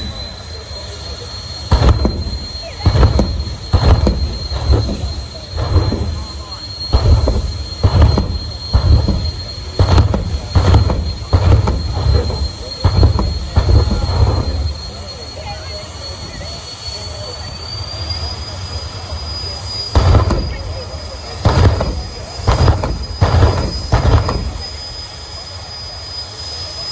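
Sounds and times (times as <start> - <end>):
loud engine surging blasts: 0.0 - 26.9
turbine engine whining: 0.0 - 26.9.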